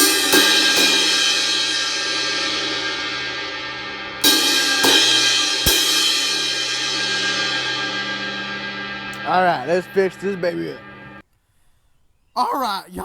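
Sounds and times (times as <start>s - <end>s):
crash cymbal ringing: 0.0s - 11.2s.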